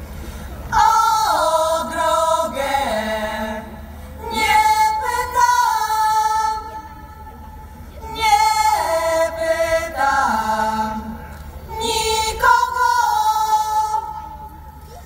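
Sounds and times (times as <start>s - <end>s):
women's choir singing: 0.7s - 7.0s, 8.0s - 14.5s.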